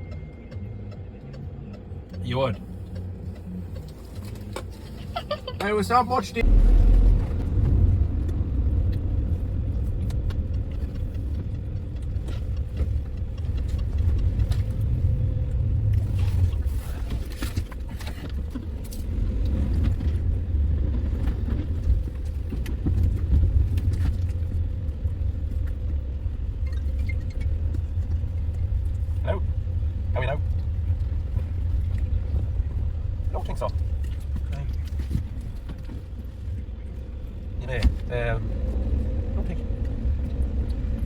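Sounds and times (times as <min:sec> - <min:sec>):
vehicle engine and tyre rumble: 0:00.0 - 0:41.0.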